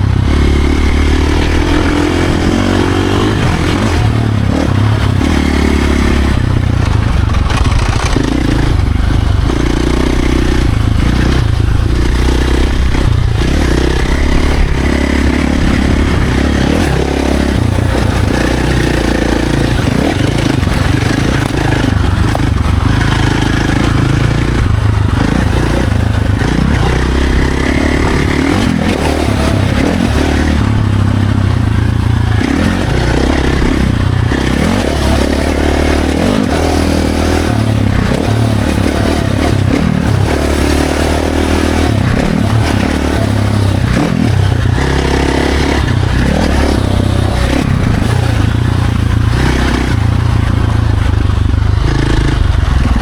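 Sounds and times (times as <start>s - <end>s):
dirt bike engine revving: 0.0s - 53.0s
rushing noise: 0.0s - 53.0s.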